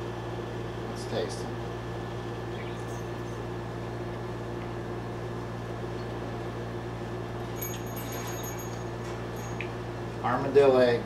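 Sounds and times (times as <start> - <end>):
faint constant whine: 0.0 - 11.0
mechanical hum: 0.0 - 11.0.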